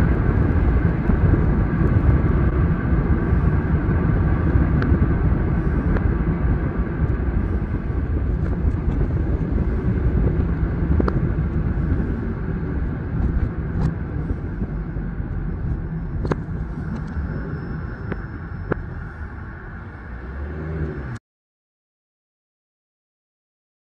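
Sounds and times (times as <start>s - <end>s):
car road noise rumble: 0.0s - 21.2s.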